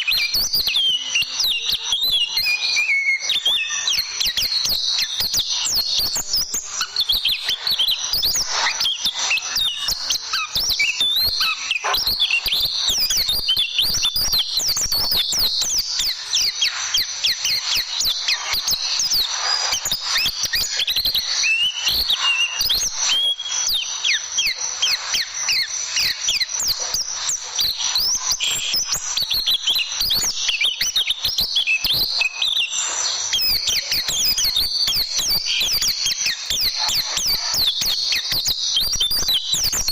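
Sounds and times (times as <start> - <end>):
bird chirping and whistling: 0.0 - 39.9.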